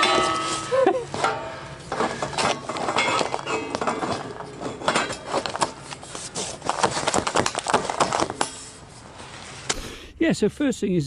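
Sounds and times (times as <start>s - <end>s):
metal tubes knocking and scraping: 0.0s - 8.9s.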